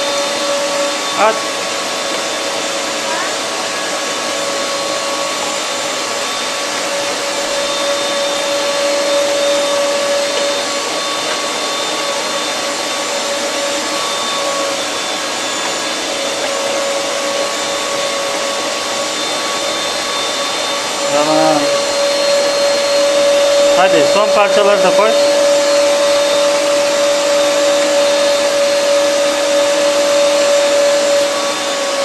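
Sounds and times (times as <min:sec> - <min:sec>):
electric meat grinder whining: 0:00.0 - 0:32.0.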